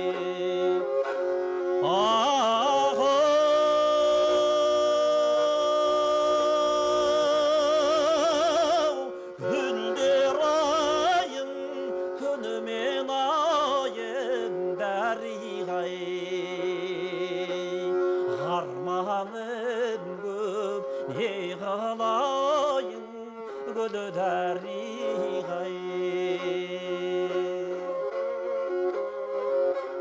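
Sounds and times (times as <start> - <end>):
bowed string melody: 0.0 - 30.0.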